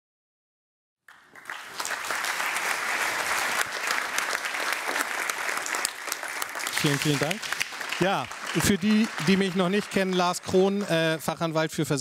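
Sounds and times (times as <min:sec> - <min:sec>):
audience applauding: 0:01.1 - 0:11.6.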